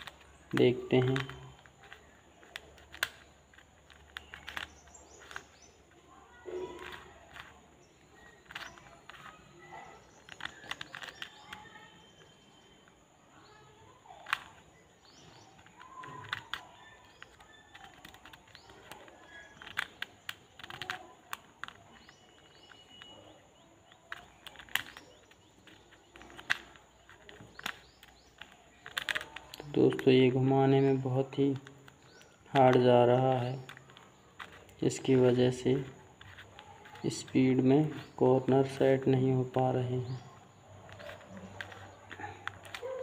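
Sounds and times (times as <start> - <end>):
plastic puzzle cube clicking: 0.0 - 43.0.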